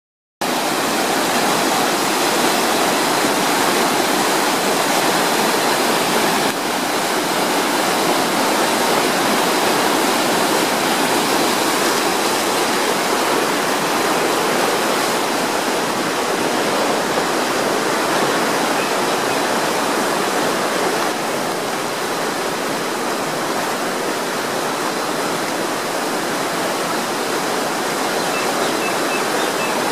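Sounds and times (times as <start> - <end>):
floodwater rushing down a drain: 0.4 - 29.9.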